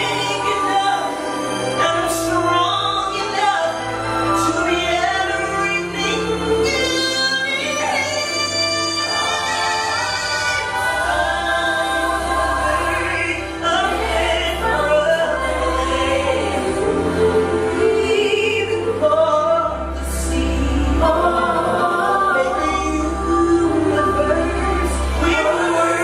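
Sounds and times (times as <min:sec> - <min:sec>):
women singing gospel in harmony: 0:00.0 - 0:26.0.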